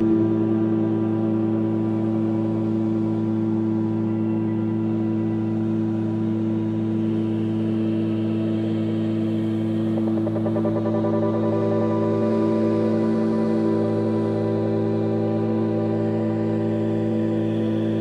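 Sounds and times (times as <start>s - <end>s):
low synthesizer drone: 0.0s - 18.0s.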